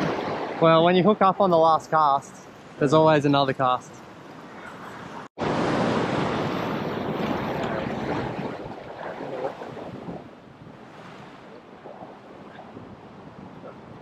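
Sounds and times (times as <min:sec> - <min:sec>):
sea surf against rocks: 0:00.0 - 0:14.0.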